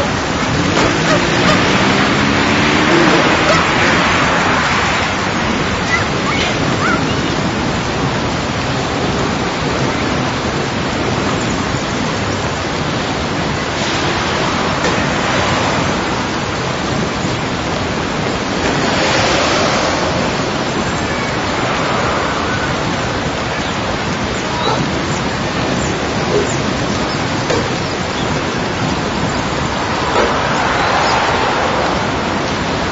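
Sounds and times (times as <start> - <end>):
dense wash of garden noise: 0.0 - 32.9.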